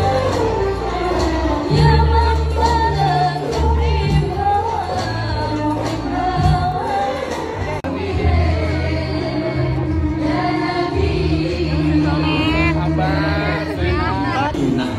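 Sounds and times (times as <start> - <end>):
light percussion: 0.0 - 14.9.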